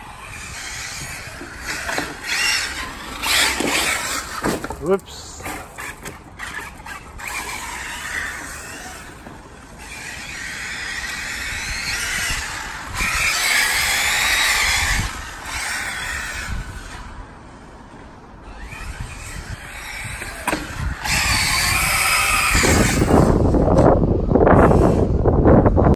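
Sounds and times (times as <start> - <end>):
wind rumble on microphone: 0.0 - 17.6, 18.4 - 25.9
electric motor whining: 0.0 - 17.7, 18.4 - 23.9.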